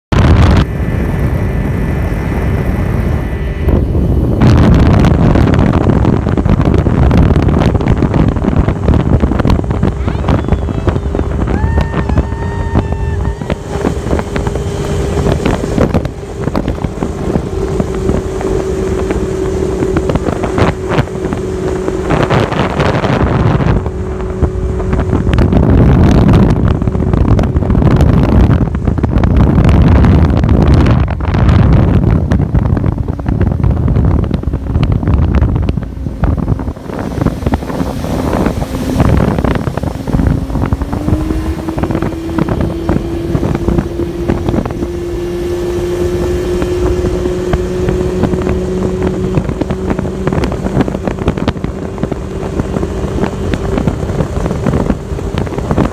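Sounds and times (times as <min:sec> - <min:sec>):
motorboat engine running: 0:00.0 - 0:55.9
wind on microphone: 0:00.0 - 0:55.9.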